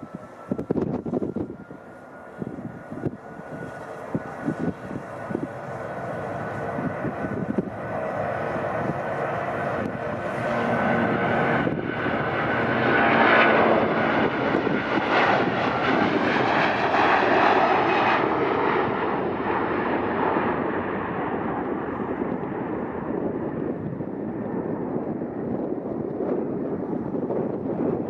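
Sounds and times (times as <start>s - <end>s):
jet airliner taking off: 0.0s - 28.0s.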